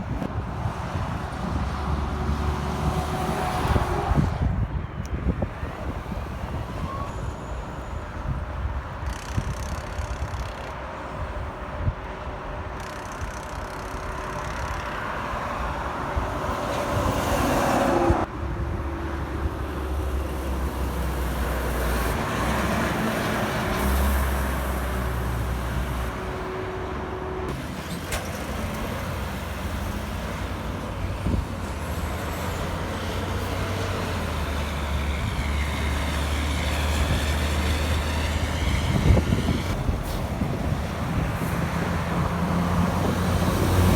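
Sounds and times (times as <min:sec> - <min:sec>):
diesel trucks driving past: 0:00.0 - 0:43.9.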